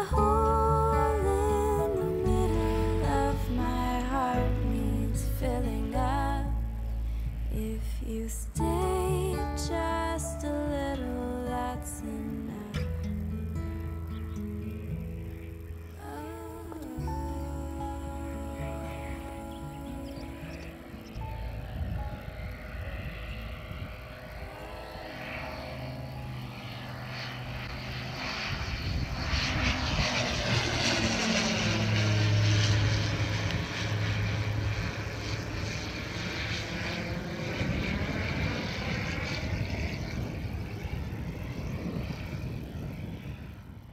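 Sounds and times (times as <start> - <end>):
light aircraft engine drone: 0.0 - 43.9.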